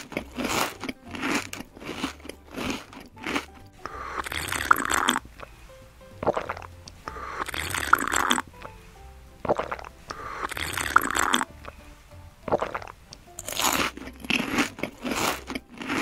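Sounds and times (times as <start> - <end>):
crunchy biting and chewing: 0.0 - 5.5, 6.2 - 8.8, 9.4 - 11.8, 12.5 - 16.0.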